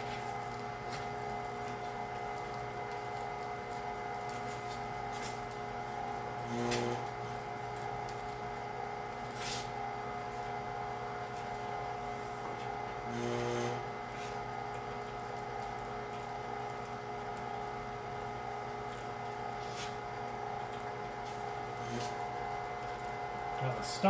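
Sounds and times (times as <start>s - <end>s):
electric meat grinder running: 0.0s - 9.2s, 11.7s - 19.5s, 20.2s - 23.6s.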